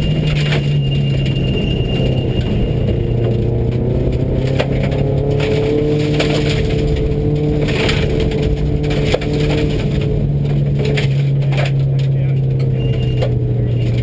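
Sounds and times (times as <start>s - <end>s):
gravel rattling against car: 0.0s - 14.0s
rally car engine running hard: 0.0s - 14.0s.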